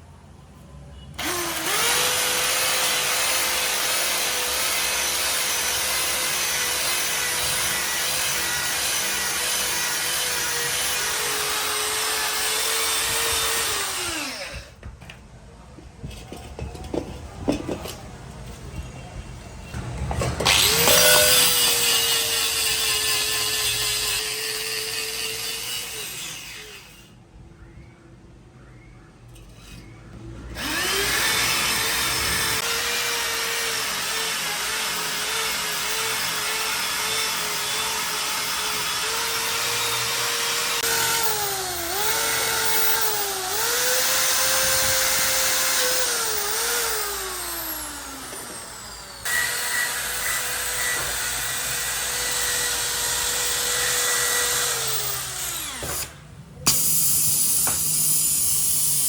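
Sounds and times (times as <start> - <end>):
power tool motor whining: 1.2 - 14.8, 20.4 - 27.1, 30.5 - 59.0.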